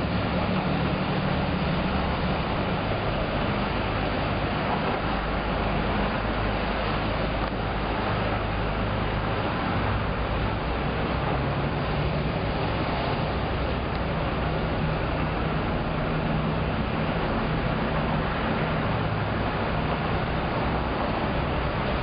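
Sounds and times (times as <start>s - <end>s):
low engine hum: 0.0s - 22.0s
traffic rumble: 0.0s - 22.0s.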